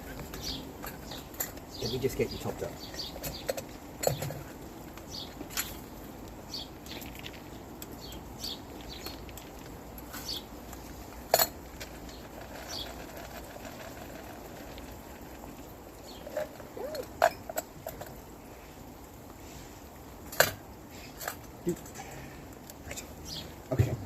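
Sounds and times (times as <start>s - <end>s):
small birds chirping: 0.0s - 20.2s, 20.9s - 24.0s.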